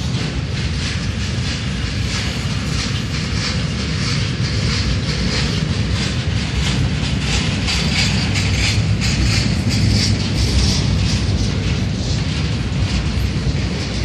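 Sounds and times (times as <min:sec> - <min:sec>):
freight train rumble: 0:00.0 - 0:14.0
wheels clicking on rails: 0:00.0 - 0:14.0.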